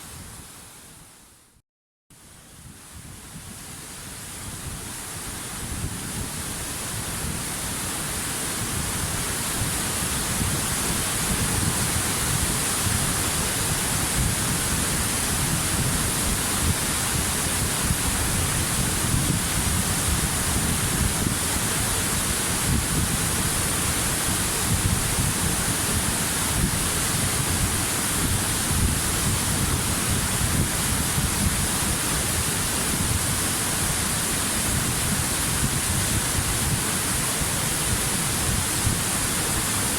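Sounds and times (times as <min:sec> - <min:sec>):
waterfall rushing: 0:06.5 - 0:39.9.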